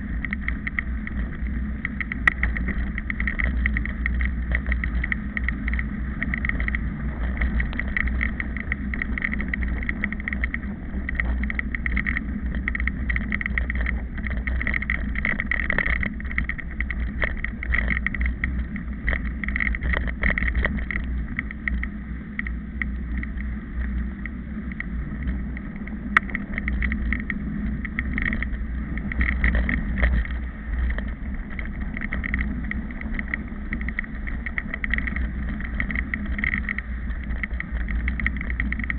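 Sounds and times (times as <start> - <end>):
bike rattling over rough ground: 0.0 - 38.9
wind rumbling on microphone: 0.0 - 38.9.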